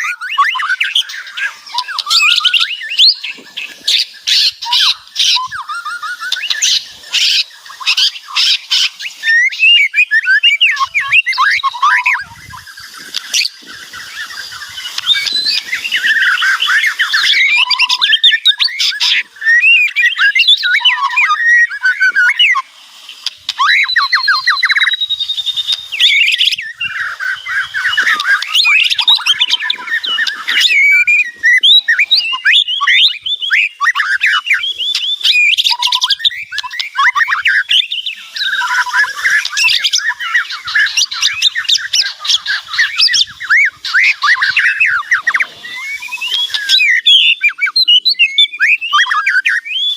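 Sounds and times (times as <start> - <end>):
songbird singing loudly: 0.0 - 49.9.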